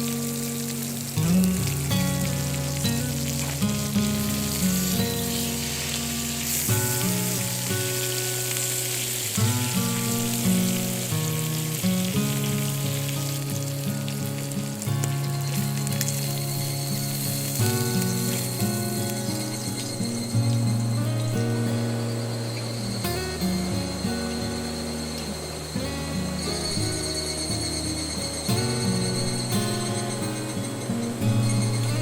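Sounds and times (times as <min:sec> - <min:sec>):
background music: 0:00.0 - 0:32.0
food sizzling in a pan: 0:00.0 - 0:32.0.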